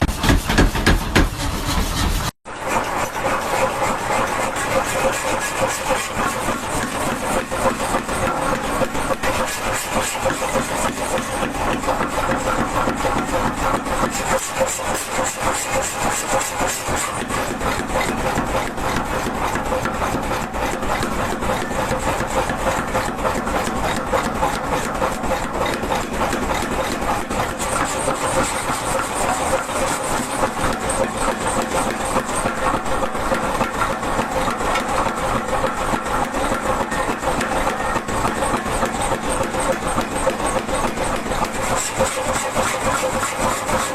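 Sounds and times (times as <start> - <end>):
power hammer striking hot steel: 0.0 - 43.9.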